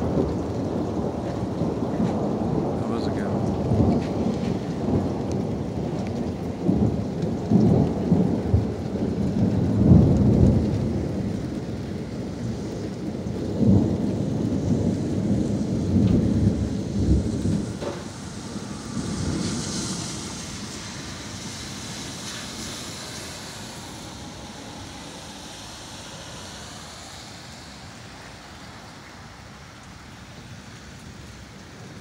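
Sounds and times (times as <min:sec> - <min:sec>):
thunder rumbling: 0:00.0 - 0:32.0.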